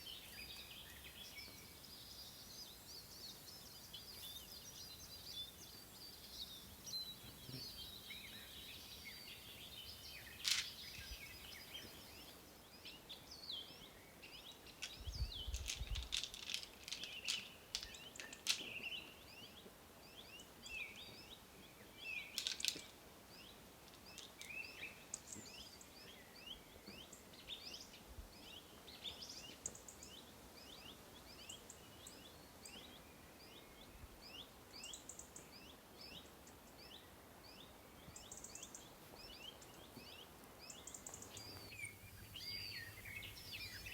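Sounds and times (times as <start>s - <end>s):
background hiss: 0.0s - 43.9s
small birds chirping: 0.0s - 43.9s.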